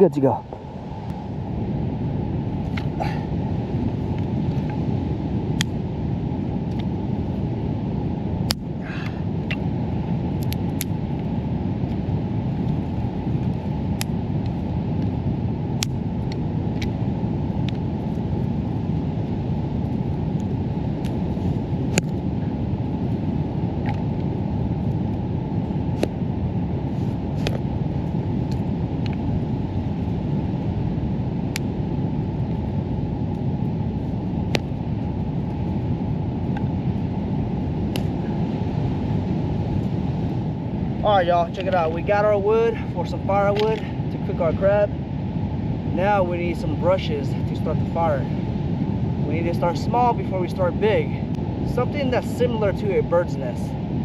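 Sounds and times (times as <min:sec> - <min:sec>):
low outdoor rumble: 0:00.0 - 0:54.0.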